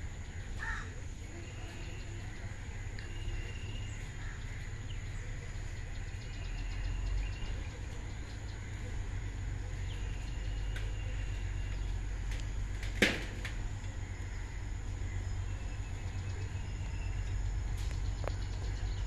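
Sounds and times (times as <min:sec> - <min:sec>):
birds chirping and calling: 0:00.0 - 0:12.4, 0:13.8 - 0:19.0
steady low rumble: 0:00.0 - 0:19.0.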